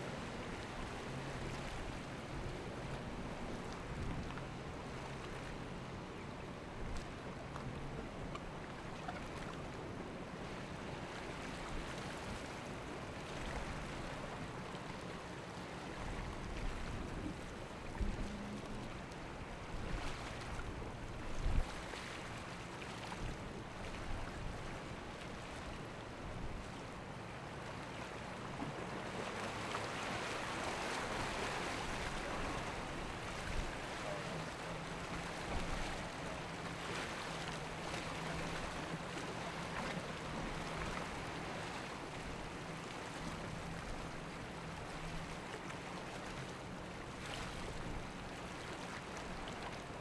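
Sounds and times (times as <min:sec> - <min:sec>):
water rushing and splashing off hull: 0:00.0 - 0:50.0
wind: 0:00.0 - 0:50.0.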